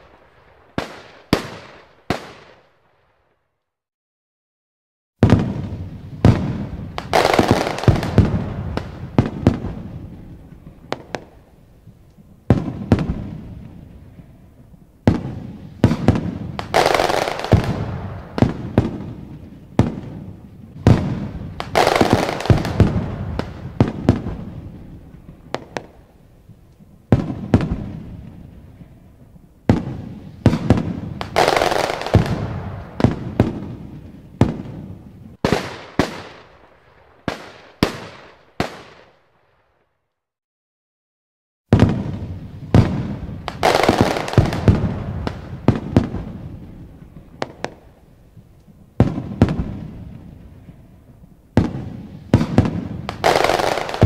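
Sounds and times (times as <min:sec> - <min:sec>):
hissing crackle of fireworks: 0:00.0 - 0:03.4, 0:05.2 - 0:39.9, 0:41.7 - 0:54.0.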